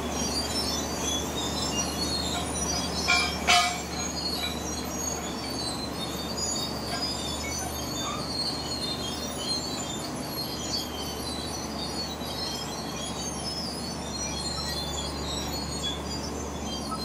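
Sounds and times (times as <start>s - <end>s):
diesel engine running: 0.0s - 17.0s
steel tracks squeaking and rattling: 0.0s - 17.0s.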